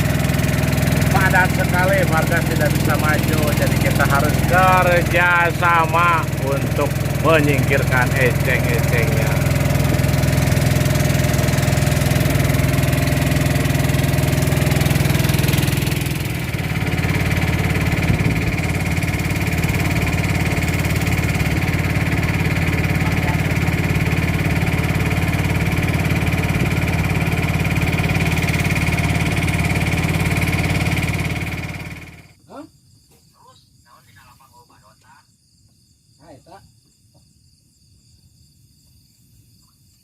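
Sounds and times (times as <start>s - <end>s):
small boat engine running: 0.0s - 32.4s.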